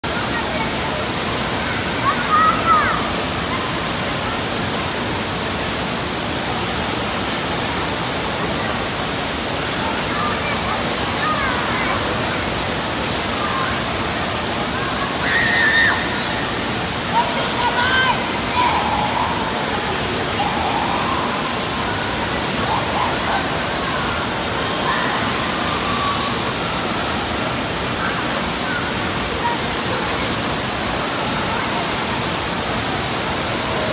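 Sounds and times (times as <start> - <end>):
water rushing and churning: 0.0 - 33.9.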